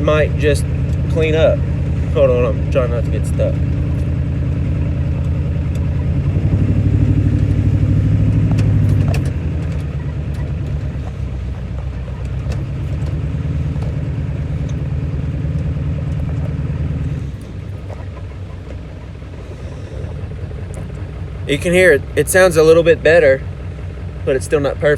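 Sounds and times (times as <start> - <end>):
diesel engine under heavy throttle: 0.0 - 24.9.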